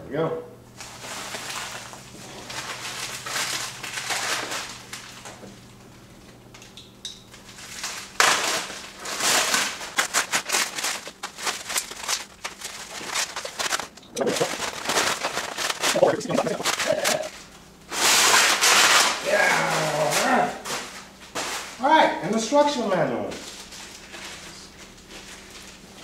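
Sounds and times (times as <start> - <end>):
bubble wrap rustling and crackling: 0.8 - 5.4, 7.4 - 17.3, 17.9 - 21.8, 23.3 - 26.0.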